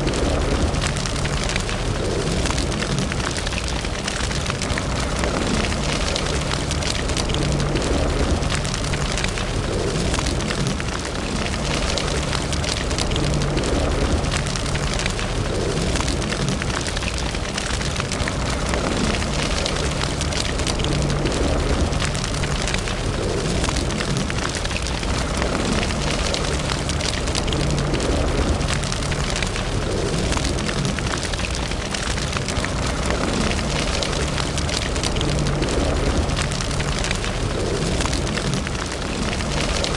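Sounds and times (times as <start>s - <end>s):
fire crackling and popping: 0.0s - 39.9s
low rush of flame: 0.0s - 39.9s.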